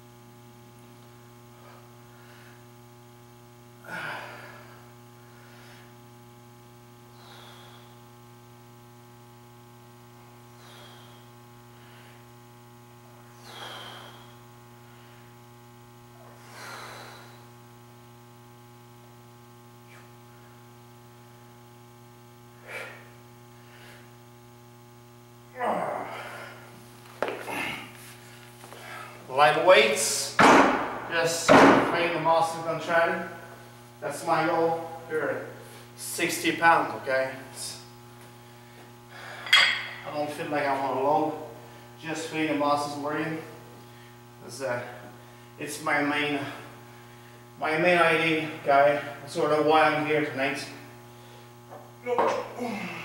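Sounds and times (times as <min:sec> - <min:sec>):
electrical mains hum: 0:00.0 - 0:53.0.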